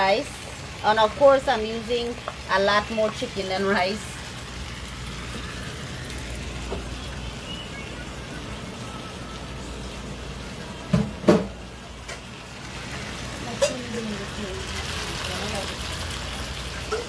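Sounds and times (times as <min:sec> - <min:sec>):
food frying in a skillet: 0:00.0 - 0:17.0.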